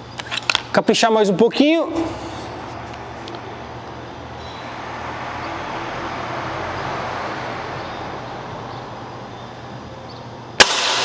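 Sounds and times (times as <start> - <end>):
low steady hum: 0.0 - 10.6
road traffic rush: 1.5 - 11.0.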